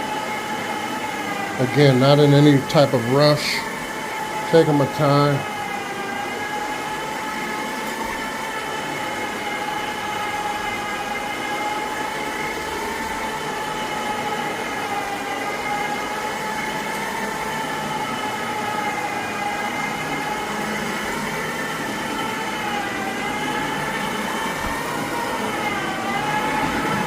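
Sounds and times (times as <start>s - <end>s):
carpet cleaner motor whining: 0.0s - 27.0s.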